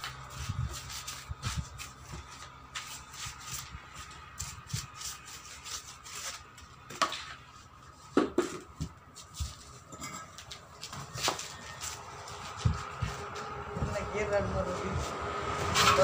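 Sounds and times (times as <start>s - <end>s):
rubbing and scraping on a tyre: 0.0s - 16.0s.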